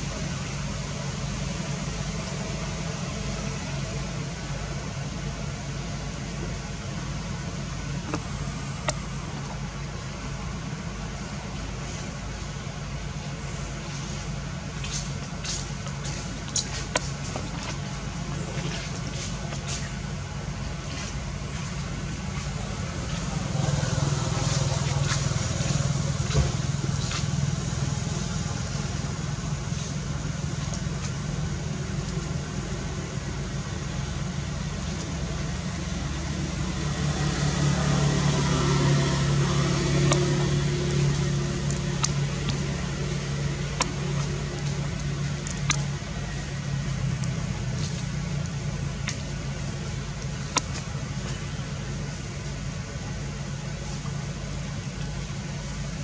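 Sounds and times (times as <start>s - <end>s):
motor engine hum: 0.0s - 56.0s.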